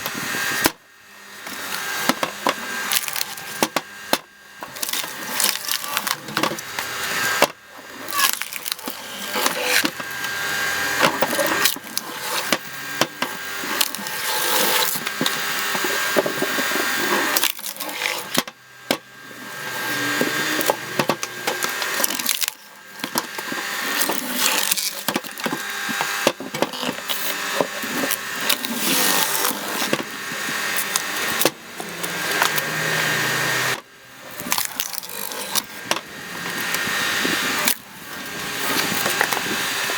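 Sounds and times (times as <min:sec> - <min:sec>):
log splitter boring into wood: 0:00.0 - 0:39.9
wood creaking and splintering: 0:00.0 - 0:39.9.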